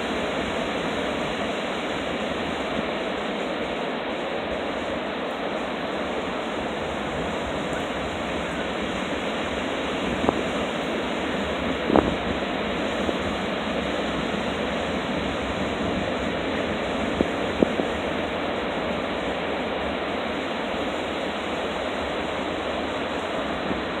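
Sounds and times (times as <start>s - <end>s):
ocean waves rushing: 0.0s - 24.0s.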